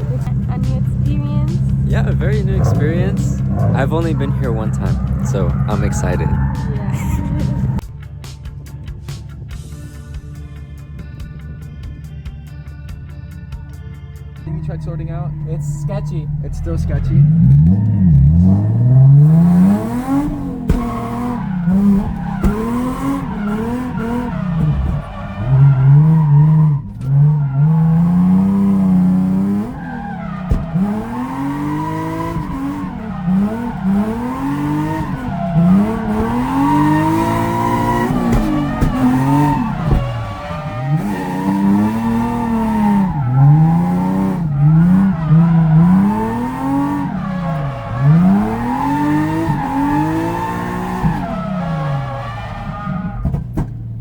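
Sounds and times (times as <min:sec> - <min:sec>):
tyres squealing: 0:00.0 - 0:07.8, 0:14.5 - 0:54.0
car engine revving: 0:00.0 - 0:54.0.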